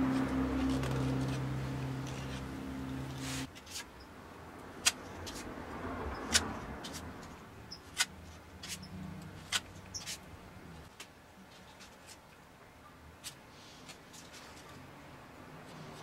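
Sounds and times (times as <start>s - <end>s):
low steady background noise: 0.0s - 16.0s.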